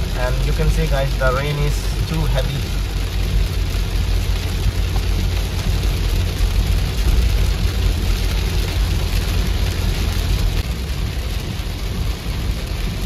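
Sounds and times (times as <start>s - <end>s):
car engine and tyres rumbling: 0.0s - 13.0s
heavy rain on a car: 0.0s - 13.0s.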